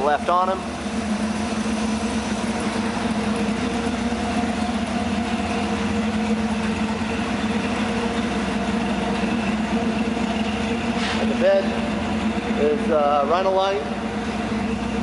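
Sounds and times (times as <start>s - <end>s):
pickup truck engine idling: 0.0s - 15.0s.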